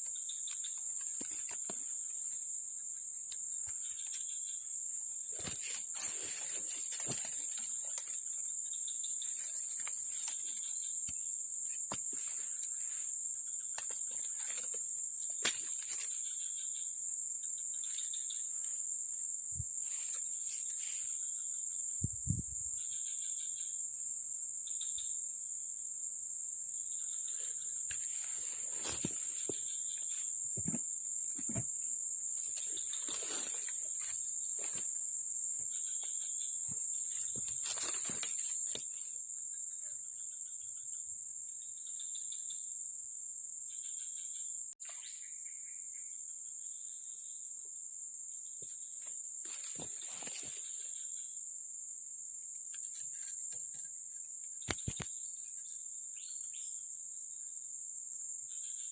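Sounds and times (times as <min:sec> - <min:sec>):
high-pitched insect drone: 0:00.0 - 0:47.6.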